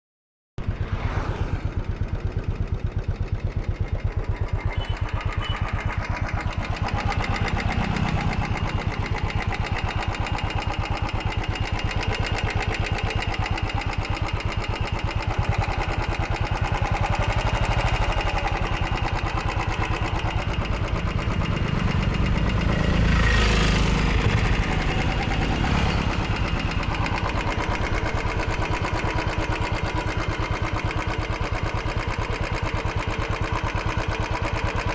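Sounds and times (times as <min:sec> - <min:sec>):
single-cylinder engine running: 0:00.6 - 0:34.9.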